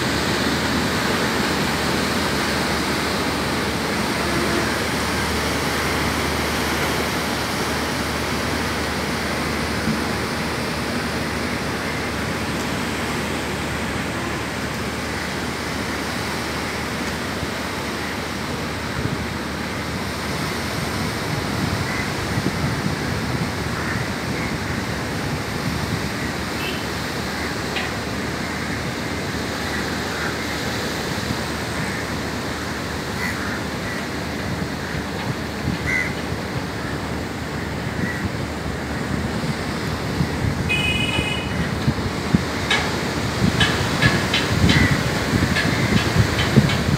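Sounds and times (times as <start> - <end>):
surf washing onto beach: 0.0 - 46.9.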